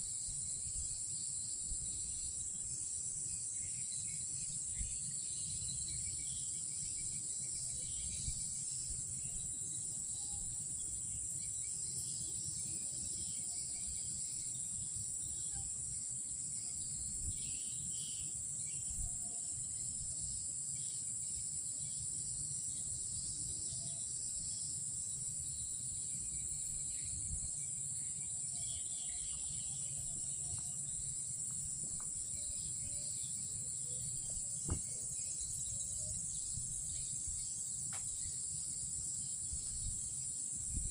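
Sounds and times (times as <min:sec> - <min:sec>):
crickets droning: 0:00.0 - 0:40.9
faint insect chirps: 0:00.0 - 0:40.9.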